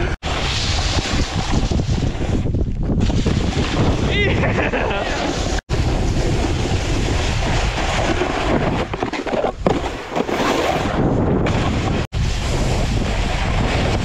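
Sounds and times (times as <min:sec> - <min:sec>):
wind buffeting microphone: 0:00.0 - 0:14.0
snowboard scraping on snow: 0:00.2 - 0:02.4, 0:03.1 - 0:14.0.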